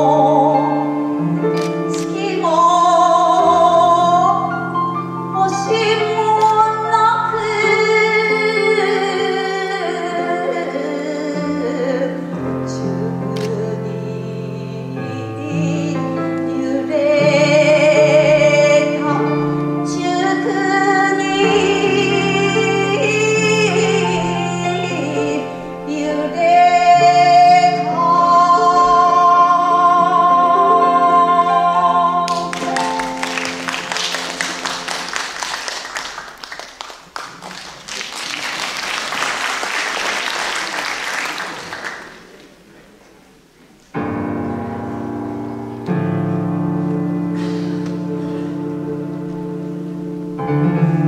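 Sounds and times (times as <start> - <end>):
keyboard accompaniment: 0.0 - 37.2, 43.8 - 51.0.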